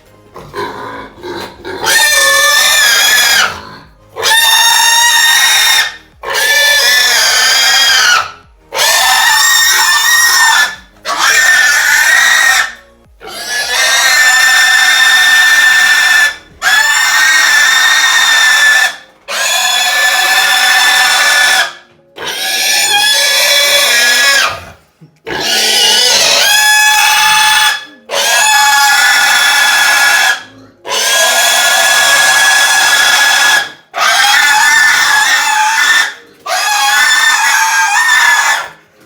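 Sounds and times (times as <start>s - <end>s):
pig squealing: 0.0s - 39.0s.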